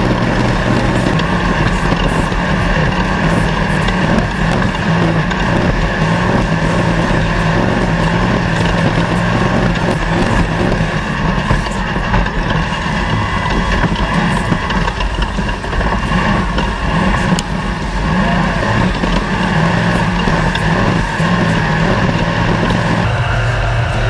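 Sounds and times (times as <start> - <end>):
race vehicle engine running: 0.0 - 24.0
wind and terrain noise: 0.0 - 24.0.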